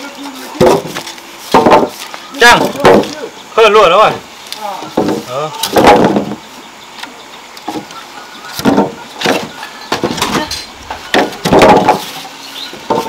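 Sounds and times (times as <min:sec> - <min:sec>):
wooden planks knocking together: 0:00.2 - 0:03.3, 0:04.6 - 0:06.4, 0:07.0 - 0:13.0.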